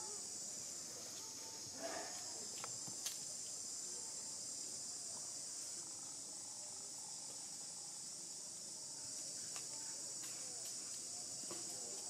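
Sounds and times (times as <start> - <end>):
faint chirps and ticks: 0.0 - 12.0
high-pitched insect chorus: 0.0 - 12.0.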